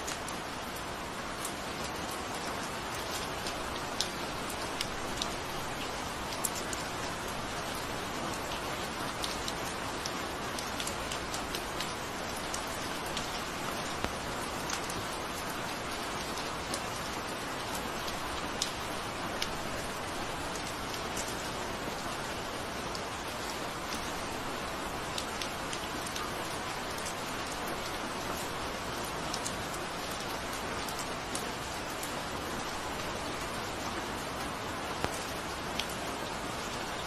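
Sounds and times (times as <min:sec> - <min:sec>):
raindrops ticking on a surface: 0:00.0 - 0:37.0
steady rain falling: 0:00.0 - 0:37.0.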